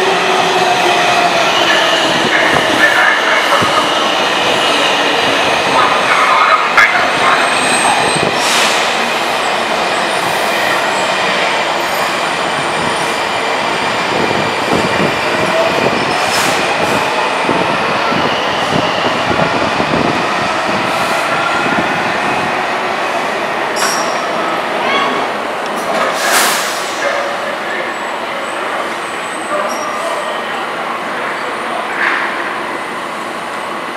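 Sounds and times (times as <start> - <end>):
train wheel and track rumble: 0.0 - 33.9.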